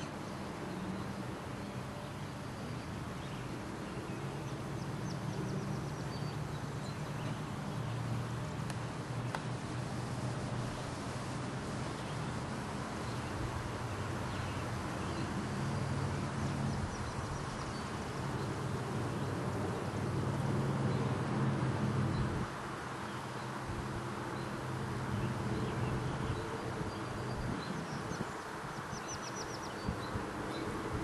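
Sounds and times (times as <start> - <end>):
constant hiss: 0.0 - 31.0.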